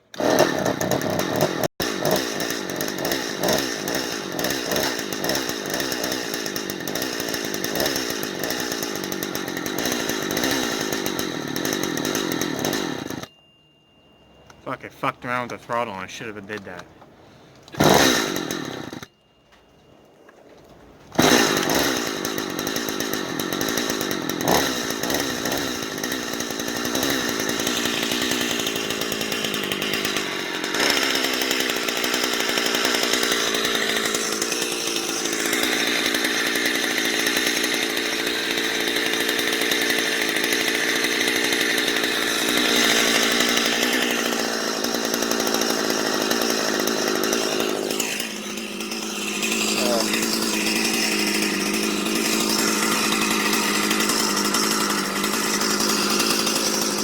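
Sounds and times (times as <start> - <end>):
small two-stroke engine running: 0.0 - 13.4, 17.7 - 19.1, 21.2 - 57.0.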